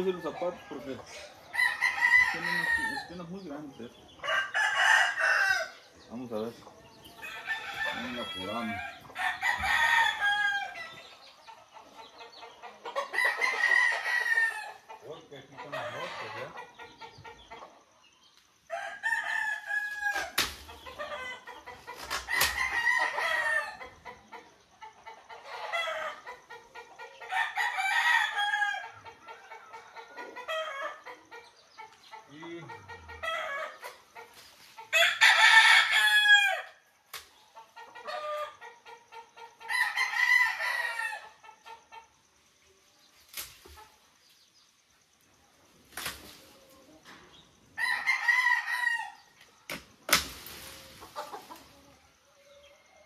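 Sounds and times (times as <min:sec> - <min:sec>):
roosters crowing: 0:00.0 - 0:17.7, 0:18.6 - 0:36.9, 0:37.6 - 0:42.1, 0:45.9 - 0:53.0
chickens clucking faintly: 0:00.0 - 0:27.9, 0:28.7 - 0:36.0, 0:36.8 - 0:53.0.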